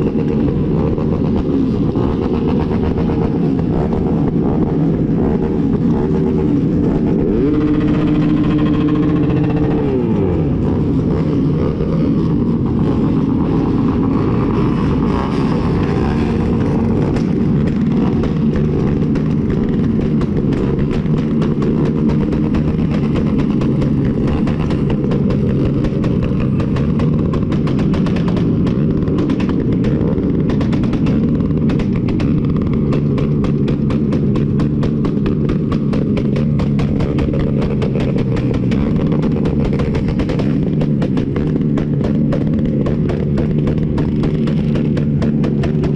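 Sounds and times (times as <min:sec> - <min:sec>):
engines hitting rev limiter: 0:00.0 - 0:45.9
motorcycle engines revving: 0:00.0 - 0:45.9.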